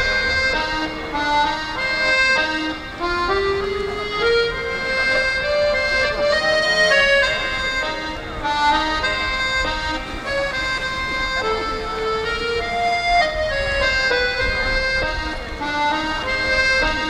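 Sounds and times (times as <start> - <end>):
piano accordion melody: 0.0 - 17.0.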